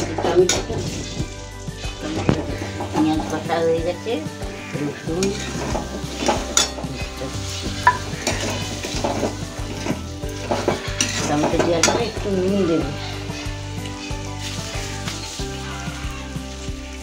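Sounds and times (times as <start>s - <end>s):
oil sizzling: 0.0s - 17.0s
spatula scraping metal pan: 0.0s - 17.0s.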